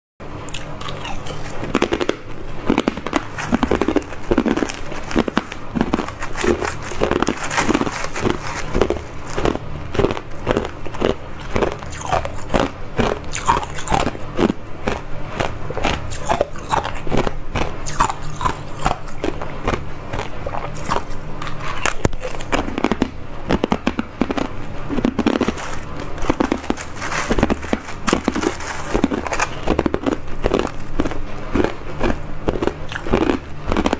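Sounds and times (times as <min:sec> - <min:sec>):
ice cubes crunching: 0:00.5 - 0:23.0, 0:23.6 - 0:33.9.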